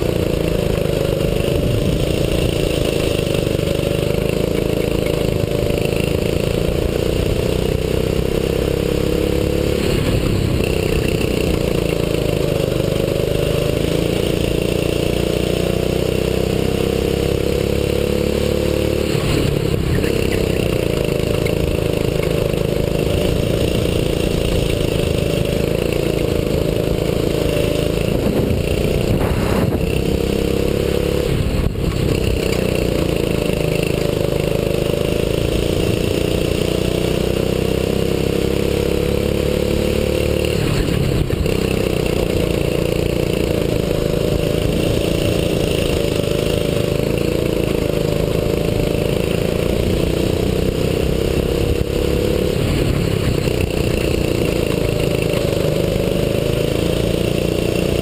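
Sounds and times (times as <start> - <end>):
kart engine at racing speed: 0.0 - 58.0
road and wind noise: 0.0 - 58.0.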